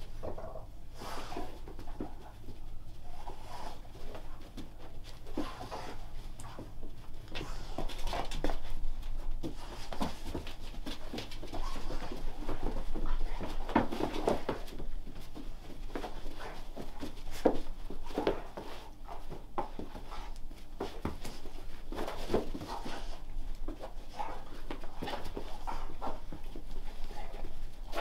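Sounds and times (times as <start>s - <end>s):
dogs scuffling: 0.0s - 28.0s.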